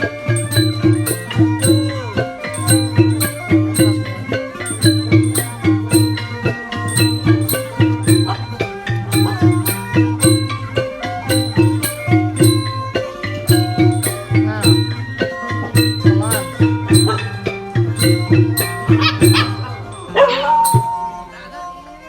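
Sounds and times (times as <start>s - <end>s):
background music with beat: 0.0s - 21.3s.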